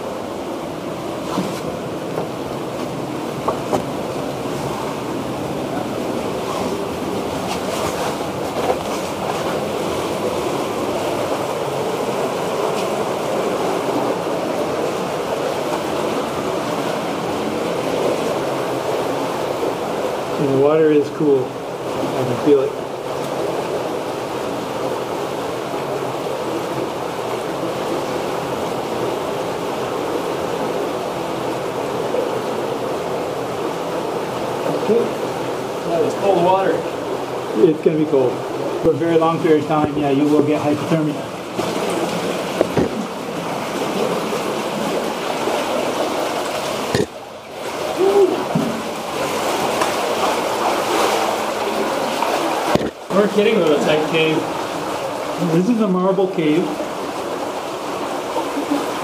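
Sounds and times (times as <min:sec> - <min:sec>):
stream of running water: 0:00.0 - 0:59.0.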